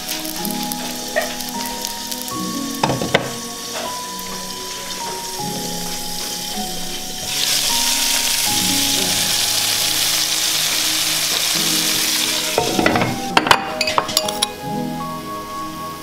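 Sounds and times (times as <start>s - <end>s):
sausages sizzling in a pan: 0.0s - 16.0s.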